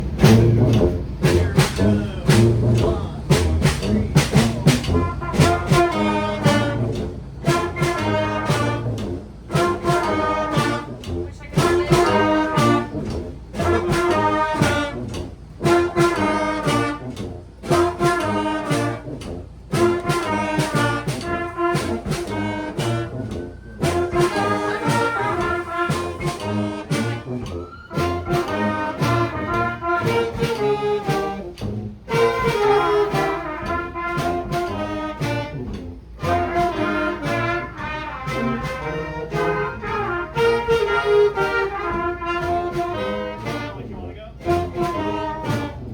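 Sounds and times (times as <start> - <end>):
brass band playing: 0.0 - 45.9.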